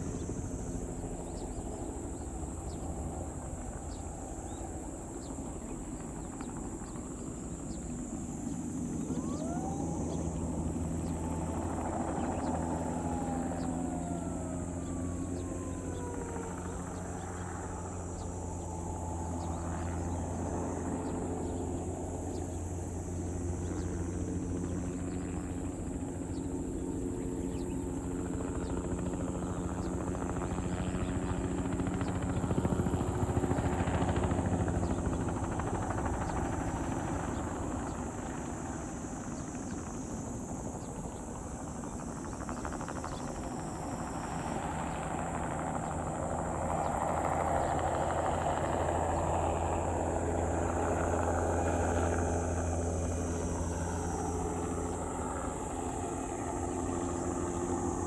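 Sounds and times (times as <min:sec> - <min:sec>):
helicopter rotor and engine hum: 0:00.0 - 0:58.0.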